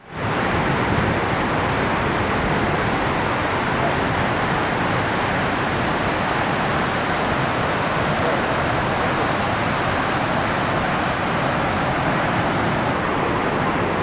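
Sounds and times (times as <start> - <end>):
waterfall crashing over rock: 0.0 - 14.0.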